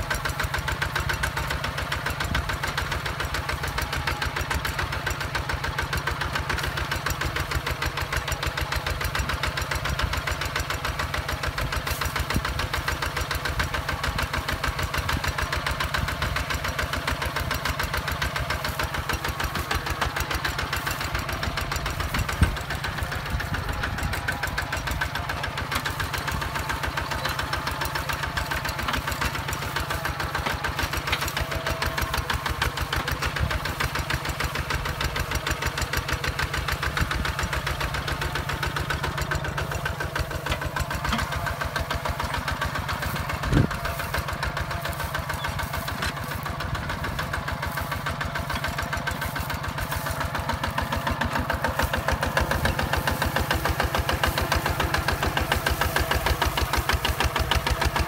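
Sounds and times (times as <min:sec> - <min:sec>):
diesel engine chugging: 0:00.0 - 0:58.0.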